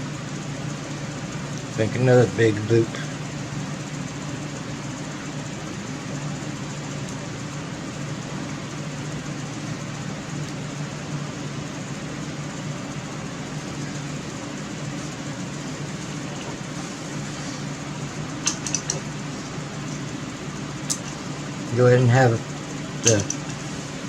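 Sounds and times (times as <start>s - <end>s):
machine hum with hiss: 0.0s - 24.0s.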